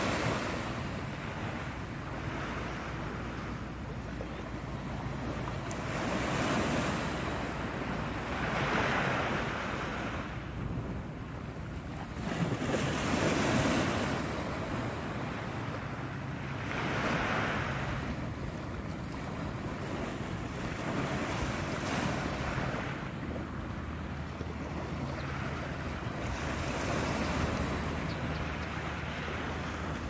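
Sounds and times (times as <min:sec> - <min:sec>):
waves washing ashore: 0:00.0 - 0:30.0
wind buffeting microphone: 0:00.0 - 0:30.0.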